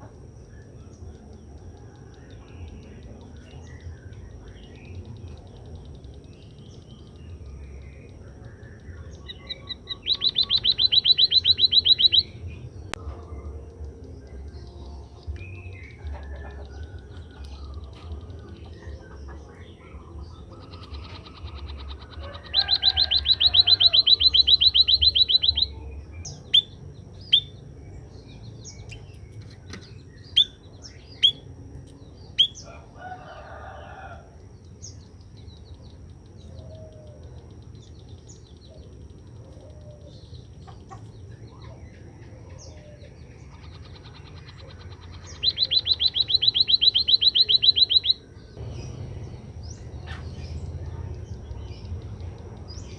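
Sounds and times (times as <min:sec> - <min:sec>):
bird high-pitched trills: 0:02.0 - 0:52.9.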